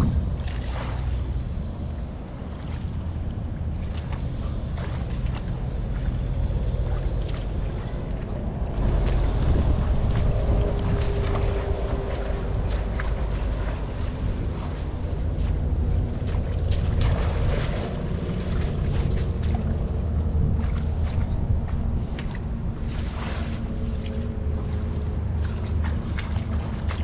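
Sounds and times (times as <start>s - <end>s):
water splashing and sloshing: 0.0s - 27.0s
wind rumbling on microphone: 0.0s - 27.0s.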